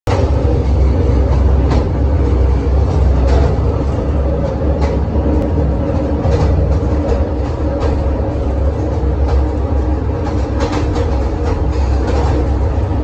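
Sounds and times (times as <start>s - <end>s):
railcar engine and wheels rumbling: 0.1s - 13.0s.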